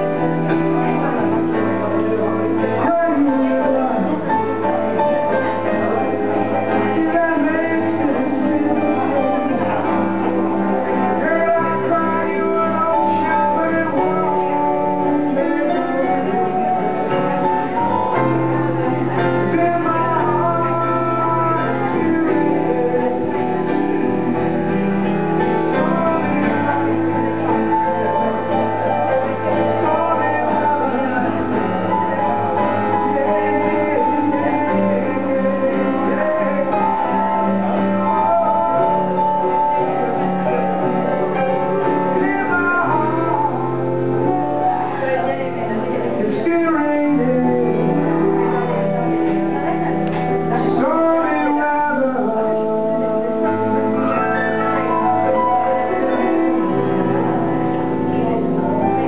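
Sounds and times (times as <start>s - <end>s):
acoustic guitar: 0.0s - 59.0s
digital piano: 0.0s - 59.0s
person singing: 0.0s - 59.0s.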